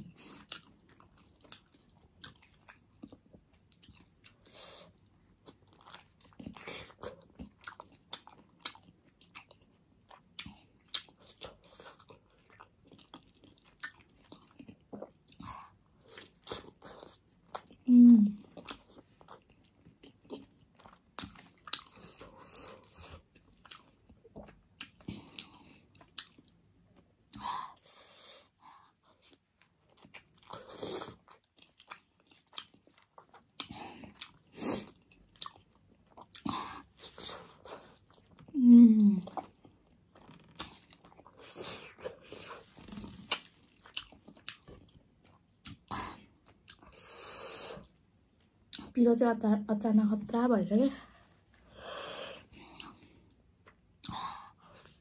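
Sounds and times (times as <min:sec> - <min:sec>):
chewing and wet mouth sounds: 0:00.0 - 0:55.0.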